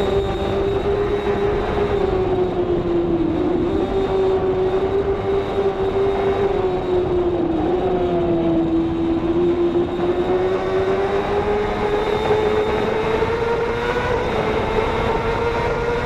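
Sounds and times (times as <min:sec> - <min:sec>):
racing motorcycle engine high revs: 0:00.0 - 0:16.0.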